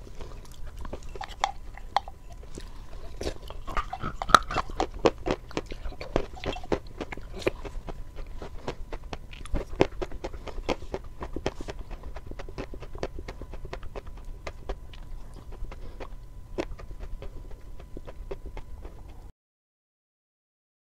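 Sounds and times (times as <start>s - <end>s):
crunchy chewing: 0.0s - 19.3s.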